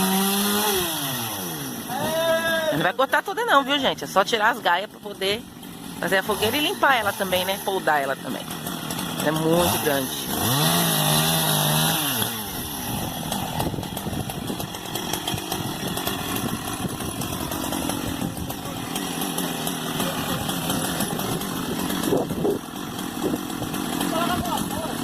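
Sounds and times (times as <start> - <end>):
chainsaw cutting: 0.0 - 25.0.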